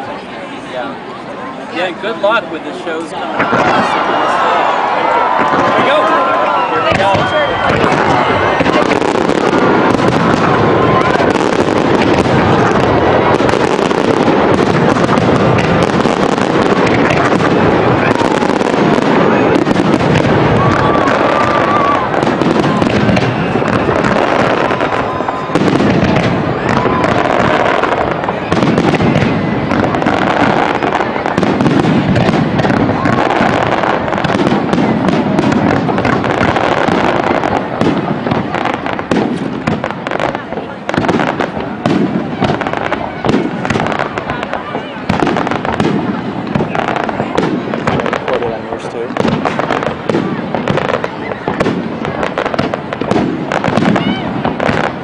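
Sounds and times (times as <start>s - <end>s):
fireworks bangs and crackling: 0.0s - 55.0s
fireworks whistling: 1.7s - 55.0s.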